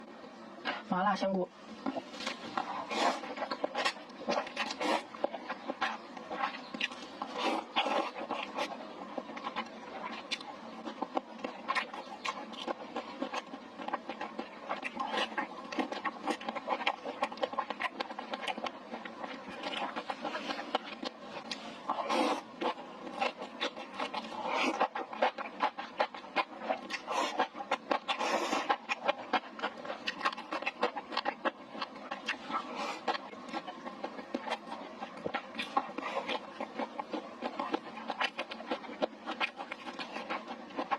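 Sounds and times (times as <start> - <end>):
chewing and mouth smacking: 1.8 - 40.9.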